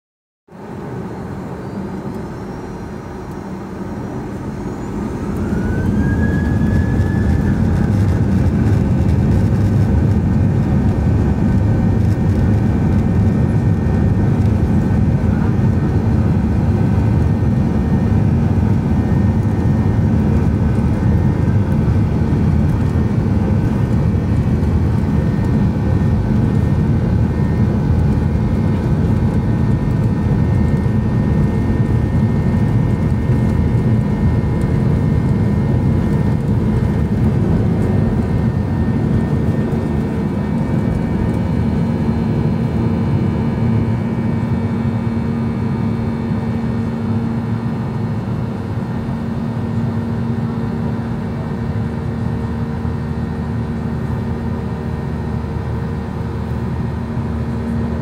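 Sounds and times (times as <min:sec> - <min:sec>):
jet engines roaring: 0:00.5 - 0:58.0
jet engines whining: 0:00.5 - 0:58.0.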